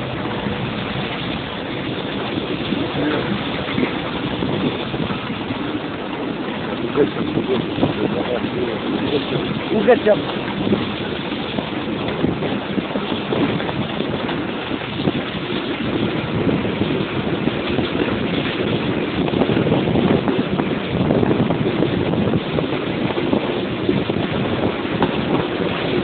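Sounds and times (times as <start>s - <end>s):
train running noise: 0.0s - 26.0s
wind rushing over microphone: 0.0s - 26.0s.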